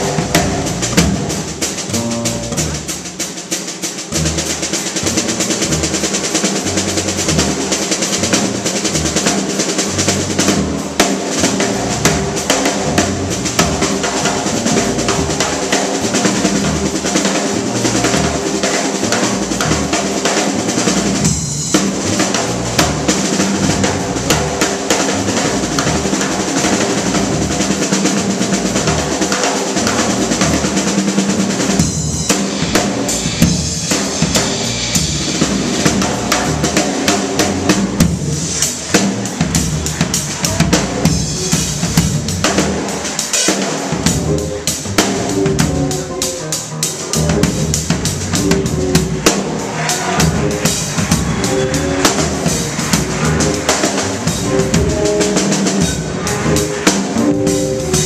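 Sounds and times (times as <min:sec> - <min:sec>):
drum kit: 0:00.0 - 0:58.0
jazz band playing: 0:00.0 - 0:58.0.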